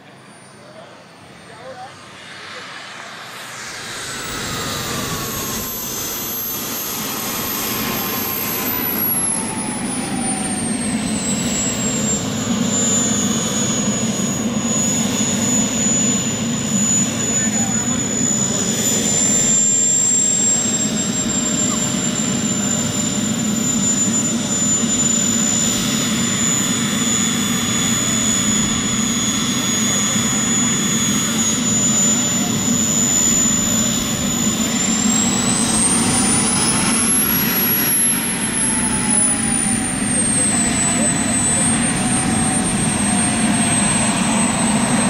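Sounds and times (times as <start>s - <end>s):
jet turbine high-pitched whine: 0.0s - 45.0s.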